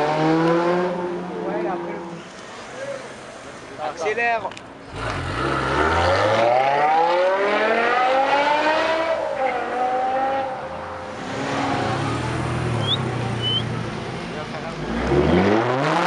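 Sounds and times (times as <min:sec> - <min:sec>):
car engine revving: 0:00.0 - 0:02.3, 0:04.8 - 0:16.0.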